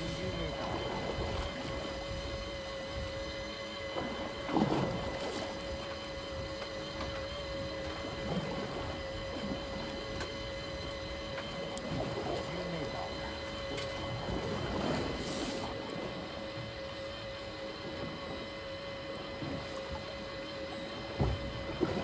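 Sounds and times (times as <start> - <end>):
fishing reel motor whining: 0.0 - 22.0.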